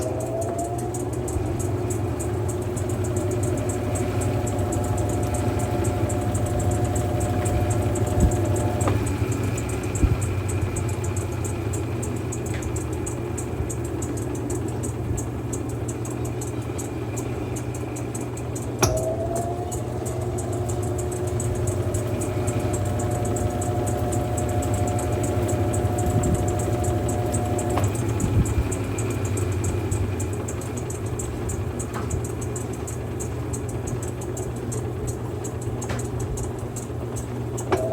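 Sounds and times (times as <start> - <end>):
washing machine motor humming: 0.0 - 37.9.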